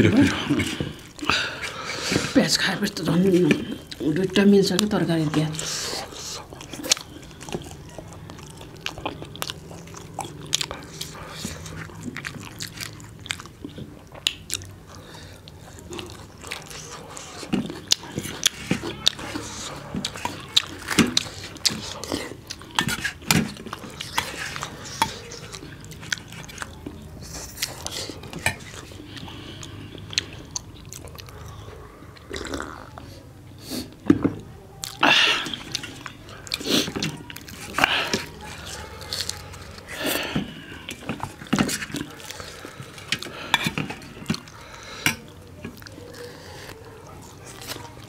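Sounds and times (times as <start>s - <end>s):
people chewing food: 0.0s - 48.0s.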